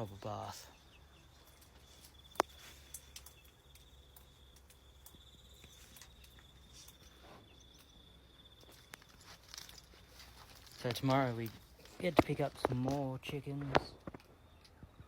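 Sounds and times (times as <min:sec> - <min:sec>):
high-pitched insect trill: 0:00.0 - 0:12.1.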